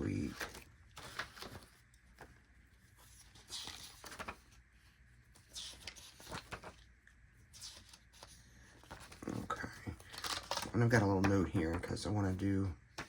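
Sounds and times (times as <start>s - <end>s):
paper pages rustling: 0.0s - 13.0s.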